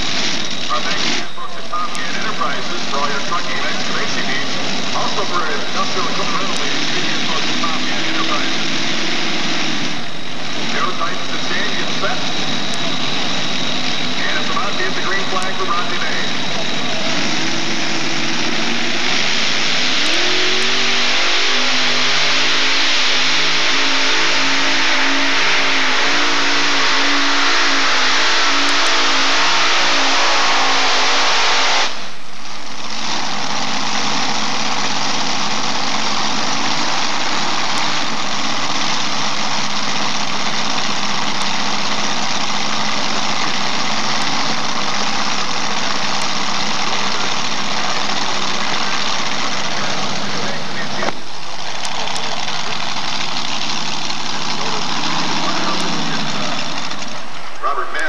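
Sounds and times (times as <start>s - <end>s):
tractor engines revving: 0.0s - 58.0s.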